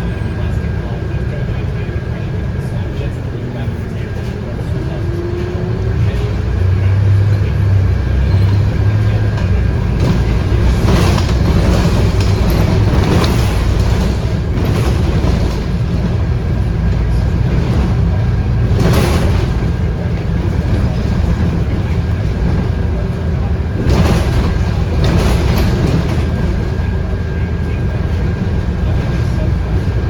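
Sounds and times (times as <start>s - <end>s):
bus body rattling over bumps: 0.0s - 30.0s
bus diesel engine drone: 0.0s - 30.0s.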